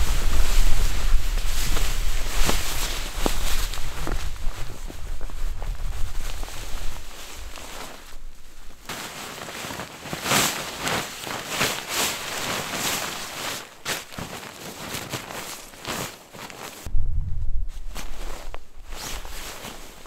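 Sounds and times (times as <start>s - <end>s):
nylon fabric rustling and swishing: 0.0s - 20.0s.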